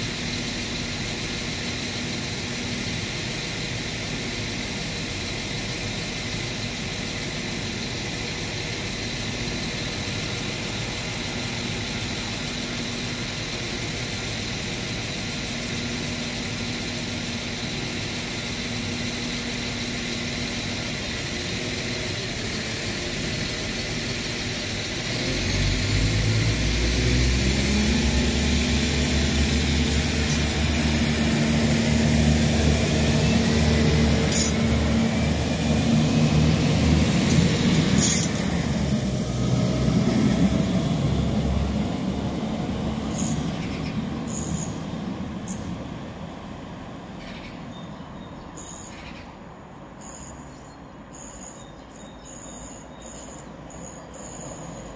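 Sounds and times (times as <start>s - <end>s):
diesel train engine: 0.0s - 54.9s.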